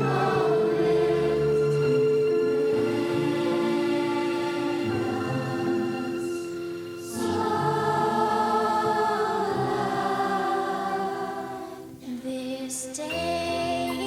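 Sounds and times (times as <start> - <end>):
youth choir singing: 0.0 - 14.0.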